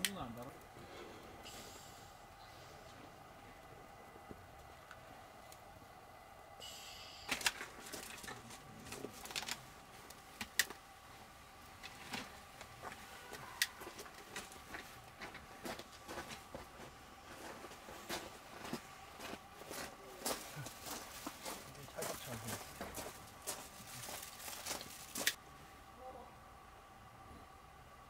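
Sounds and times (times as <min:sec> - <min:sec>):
fire crackling: 0:00.0 - 0:06.6, 0:07.2 - 0:25.5.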